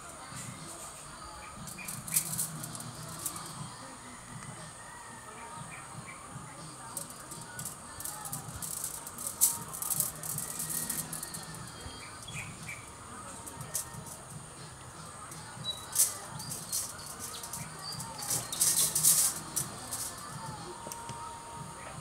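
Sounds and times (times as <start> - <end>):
wire rustling and clicking: 0.0 - 3.7, 6.8 - 21.2
birds chirping: 0.0 - 22.0.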